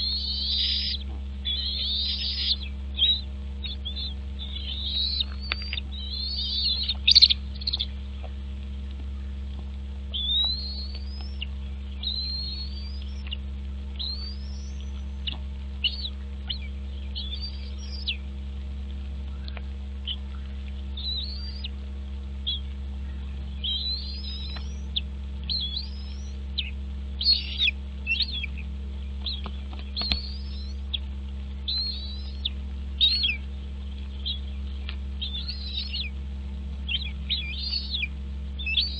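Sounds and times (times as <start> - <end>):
birds chirping: 0.0 - 38.9
low electrical hum: 0.0 - 38.9.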